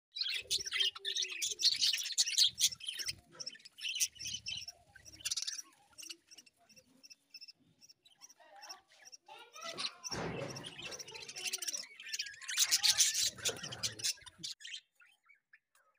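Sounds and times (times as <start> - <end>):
budgerigars chattering and chirping: 0.1 - 15.9.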